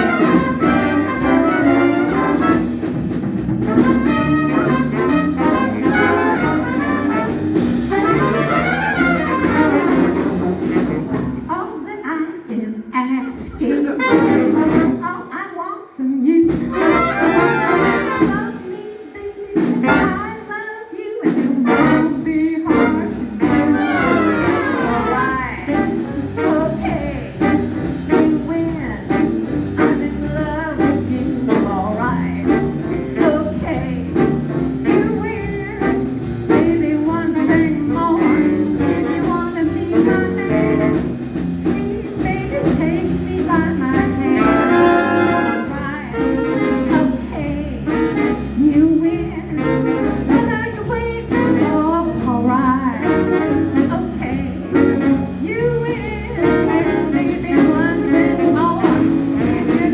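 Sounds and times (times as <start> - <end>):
steady drum beat: 0.0 - 11.8, 13.5 - 15.3, 16.5 - 20.6, 21.3 - 59.9
swing band playing: 0.0 - 59.9
woman singing: 4.2 - 8.4, 9.0 - 59.9.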